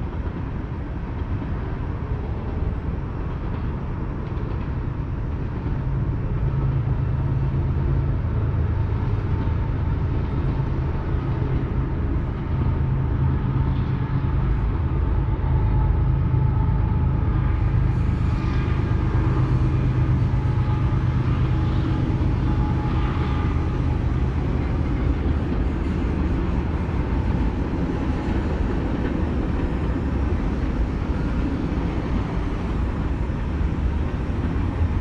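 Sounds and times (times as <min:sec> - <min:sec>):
freight train rumbling past: 0:00.0 - 0:35.0
low hum: 0:05.3 - 0:35.0.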